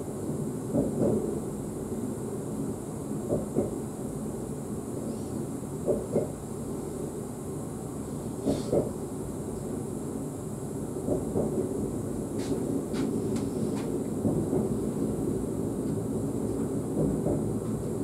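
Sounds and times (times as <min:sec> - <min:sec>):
train rumbling on track: 0:00.0 - 0:07.0, 0:07.8 - 0:10.0, 0:10.7 - 0:18.0.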